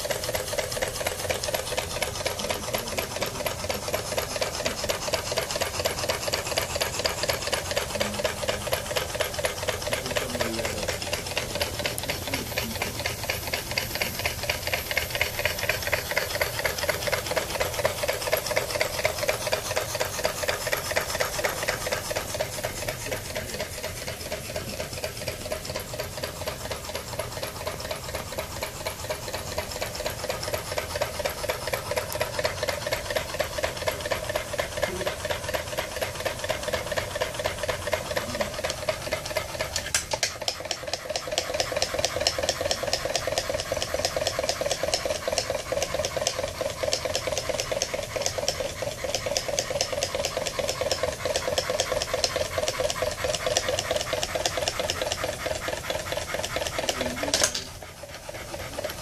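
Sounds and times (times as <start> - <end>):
mini steam engine clattering: 0.0 - 59.0.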